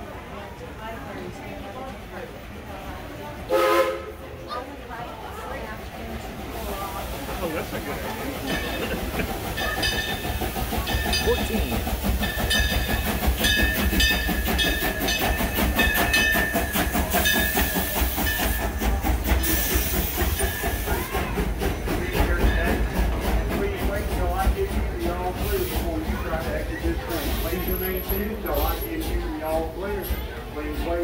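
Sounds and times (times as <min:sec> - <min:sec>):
steam locomotive hissing steam: 0:02.2 - 0:31.0
wheels clacking: 0:05.4 - 0:31.0.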